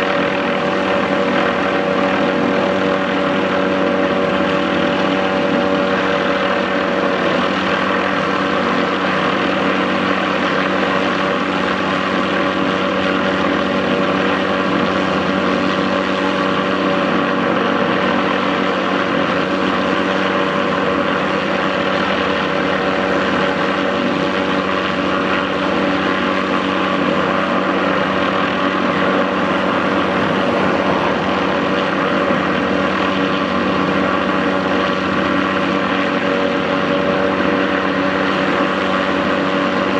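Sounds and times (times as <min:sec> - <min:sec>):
helicopter droning: 0:00.0 - 0:39.9.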